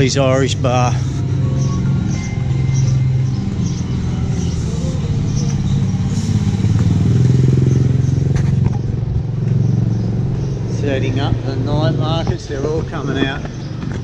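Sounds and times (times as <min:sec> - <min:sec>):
small motorbike passing: 0:00.0 - 0:14.0.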